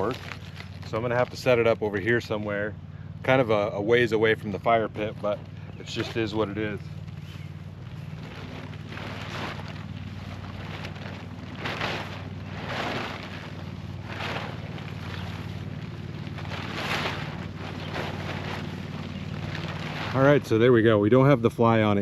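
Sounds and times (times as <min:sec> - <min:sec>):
nylon tent fabric rustling: 0:00.0 - 0:02.6, 0:03.2 - 0:22.0
steady low hum: 0:00.0 - 0:22.0.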